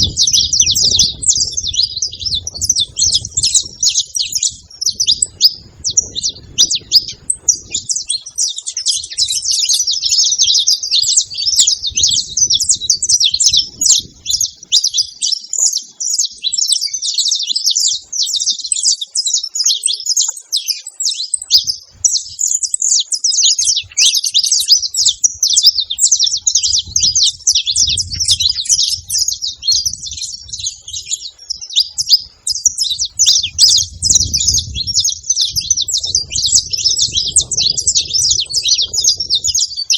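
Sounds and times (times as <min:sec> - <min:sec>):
finch chirping rapidly: 0:00.0 - 0:39.9.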